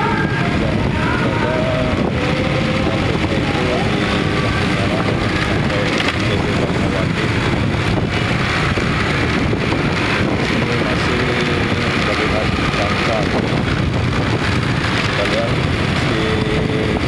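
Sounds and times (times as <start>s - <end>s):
motorbikes and cars running: 0.0s - 17.0s
wind buffeting microphone: 0.0s - 17.0s.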